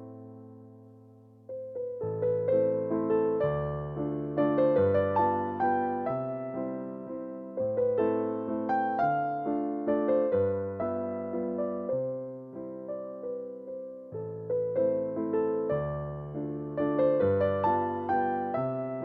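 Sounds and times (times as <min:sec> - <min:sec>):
gentle electric piano melody: 0:00.0 - 0:19.0.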